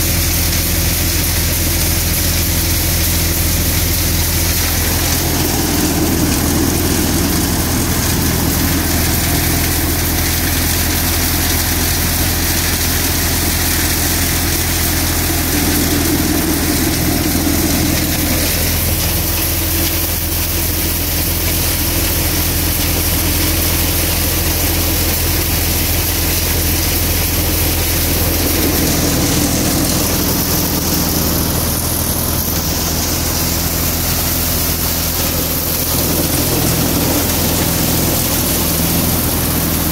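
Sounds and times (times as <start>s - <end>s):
low engine drone: 0.0s - 39.9s
thresher clatter and rush: 0.0s - 39.9s.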